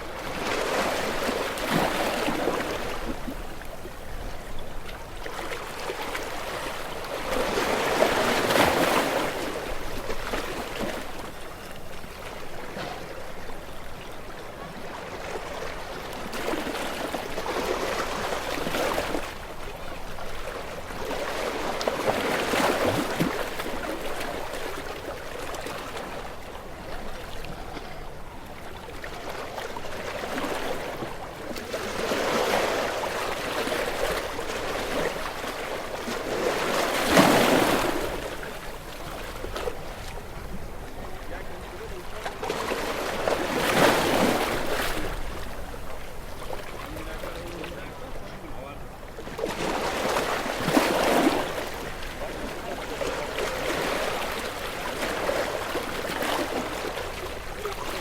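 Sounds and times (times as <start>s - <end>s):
sea waves breaking on rocks: 0.0s - 58.0s.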